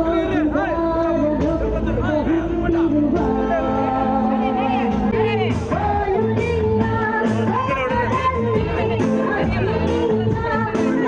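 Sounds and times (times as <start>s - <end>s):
song with singing and beat: 0.0s - 11.0s.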